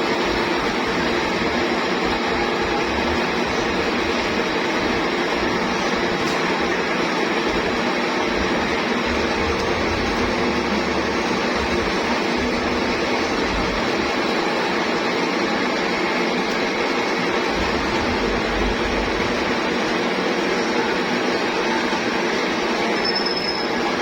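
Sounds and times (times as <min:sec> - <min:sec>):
lathe running: 0:00.0 - 0:24.0.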